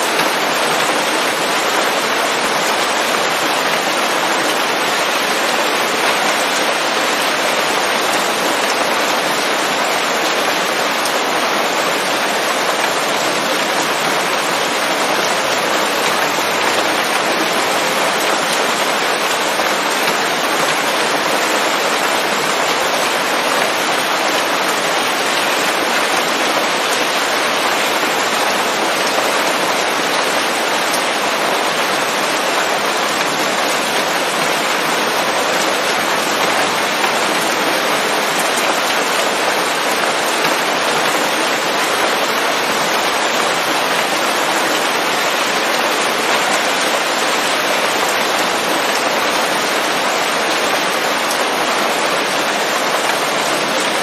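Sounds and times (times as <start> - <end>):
rain pattering on leaves: 0.1 - 54.0.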